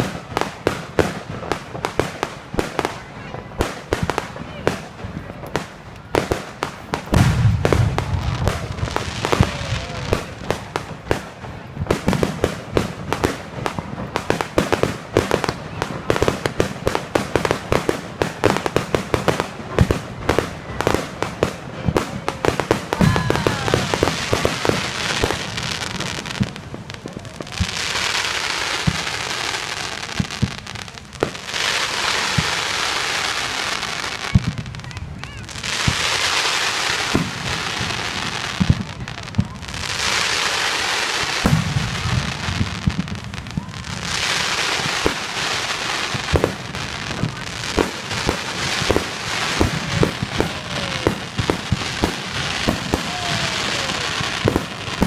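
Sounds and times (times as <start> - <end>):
fireworks hissing crackle: 0.0 - 55.0
fireworks popping and banging: 0.0 - 55.0.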